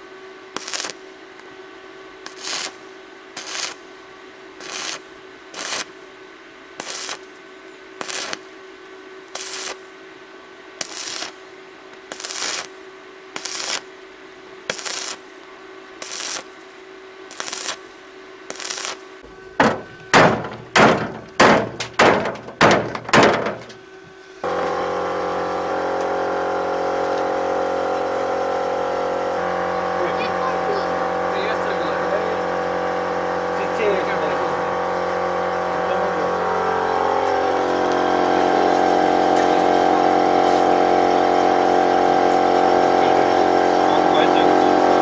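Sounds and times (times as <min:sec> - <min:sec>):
engine running: 0:00.0 - 0:45.0
welder hum: 0:00.0 - 0:45.0
welding arc crackling: 0:00.5 - 0:01.2, 0:02.2 - 0:04.0, 0:04.6 - 0:06.0, 0:06.8 - 0:07.4, 0:08.0 - 0:08.6, 0:09.3 - 0:09.9, 0:10.8 - 0:14.0, 0:14.7 - 0:15.4, 0:16.0 - 0:23.8, 0:24.4 - 0:45.0.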